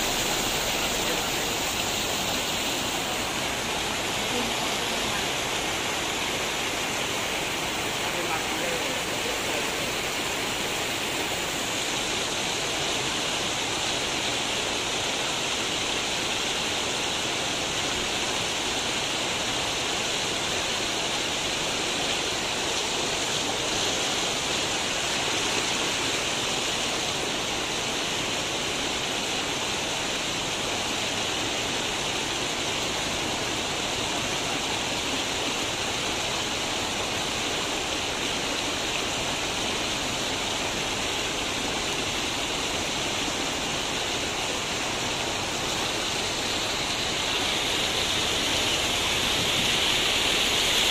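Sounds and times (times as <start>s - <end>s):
floodwater rushing over road: 0.0s - 50.9s.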